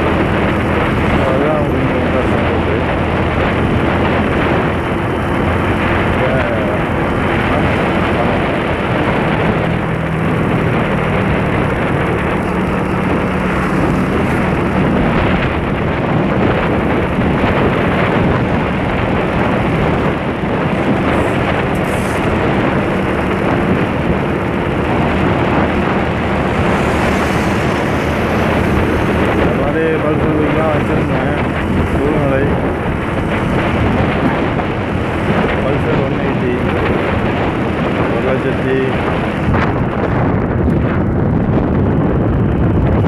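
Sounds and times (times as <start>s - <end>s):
motorcycle engine cruising: 0.0s - 43.0s
wind rushing over microphone: 0.0s - 43.0s.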